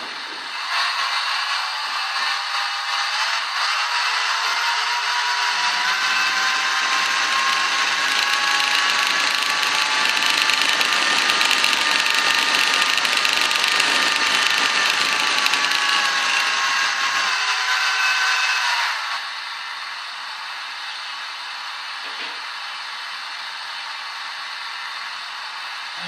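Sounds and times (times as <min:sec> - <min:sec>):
model locomotive engine sound: 0:00.0 - 0:26.0.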